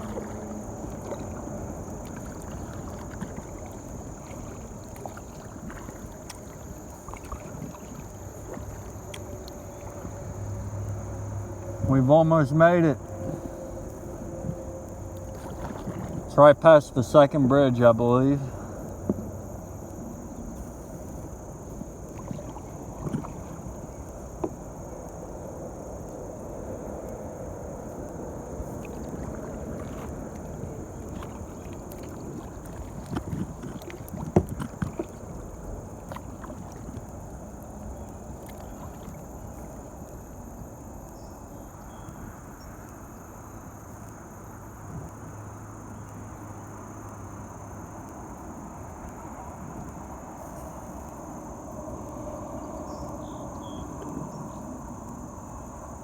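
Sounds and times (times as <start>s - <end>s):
water around a paddled kayak: 0.0s - 56.0s.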